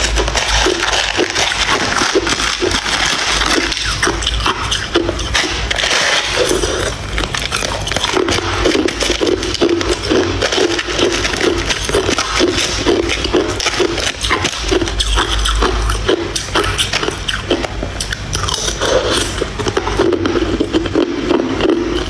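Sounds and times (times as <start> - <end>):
ice cubes crunched and chewed: 0.0 - 22.0.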